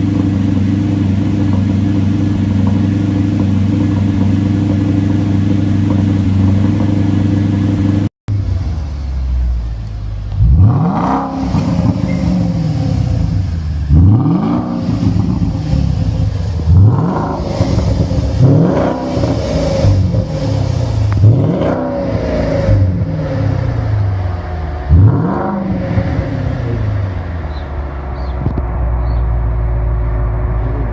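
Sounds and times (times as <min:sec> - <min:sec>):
sports car engine droning: 0:00.0 - 0:30.9
sports car engine revving: 0:00.0 - 0:30.9.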